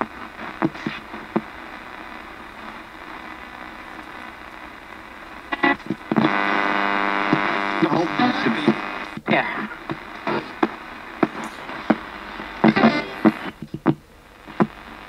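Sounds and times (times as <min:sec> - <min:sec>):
radio buzzing hum: 0:00.0 - 0:15.0
radio station fragments and static: 0:00.0 - 0:15.0.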